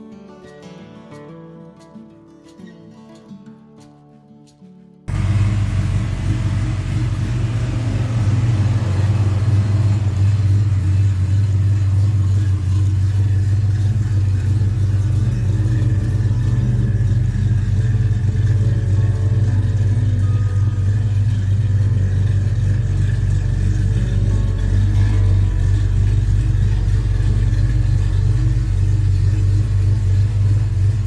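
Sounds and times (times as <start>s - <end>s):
guitar music: 0.0s - 31.0s
car engine running: 5.1s - 31.0s.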